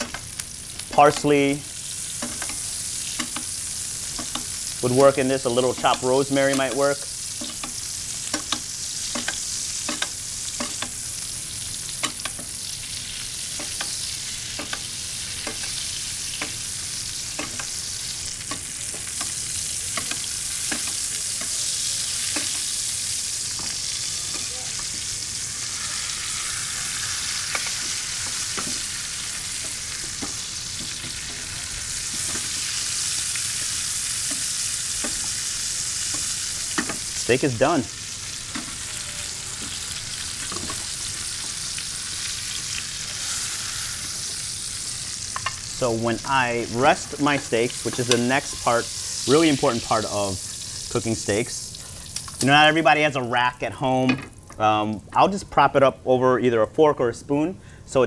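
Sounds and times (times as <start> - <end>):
steaks sizzling in butter: 0.0 - 53.6.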